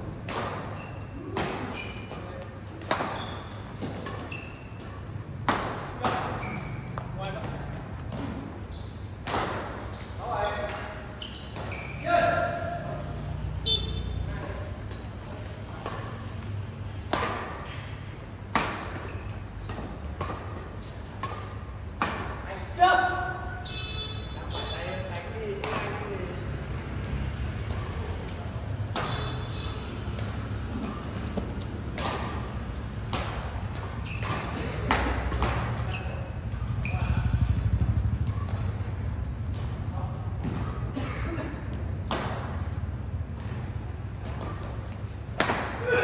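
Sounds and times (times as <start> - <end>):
shoes squeaking on court: 0.1 - 12.8, 13.7 - 22.6, 23.5 - 41.0, 41.6 - 45.8
rackets hitting shuttlecock: 0.1 - 13.2, 14.0 - 23.6, 24.5 - 46.0.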